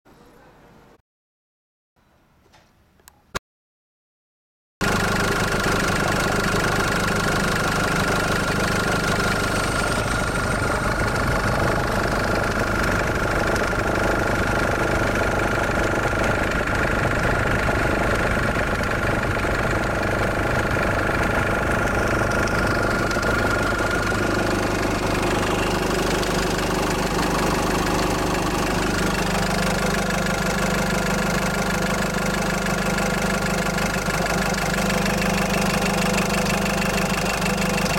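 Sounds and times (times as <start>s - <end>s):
car engine idling: 4.8s - 37.9s.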